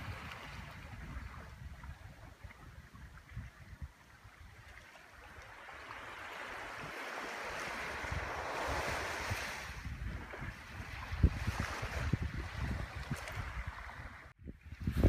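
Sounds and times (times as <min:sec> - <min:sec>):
waves washing onto beach: 0:00.0 - 0:15.0
wind rumble on microphone: 0:00.0 - 0:15.0.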